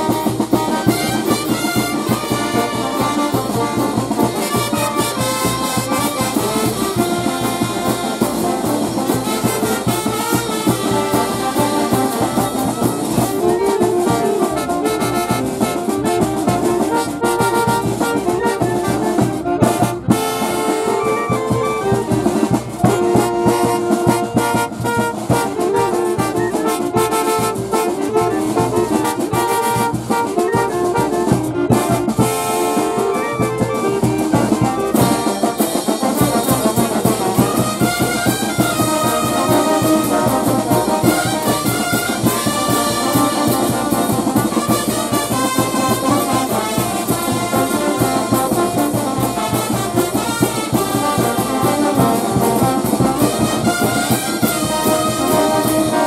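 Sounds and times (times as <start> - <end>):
brass band playing: 0.0 - 56.0
drums and cymbals beat: 0.0 - 56.0.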